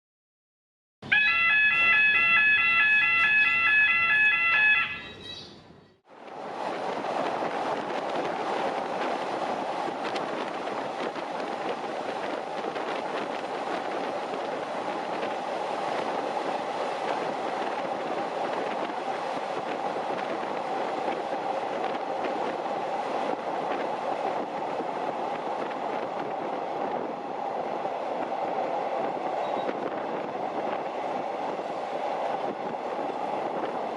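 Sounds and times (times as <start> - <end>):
diesel train rolling along track: 1.0 - 33.9.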